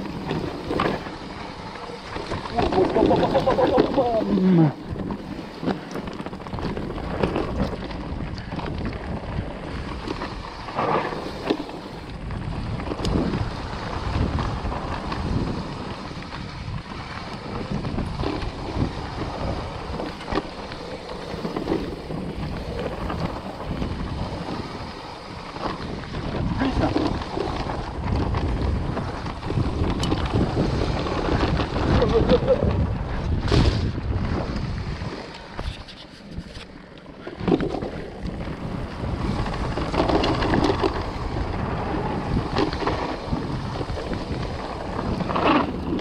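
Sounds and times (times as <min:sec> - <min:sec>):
bike knocking and rattling: 0:00.0 - 0:46.0
tyres rumbling on dirt trail: 0:00.0 - 0:46.0
wind buffeting microphone: 0:00.0 - 0:46.0.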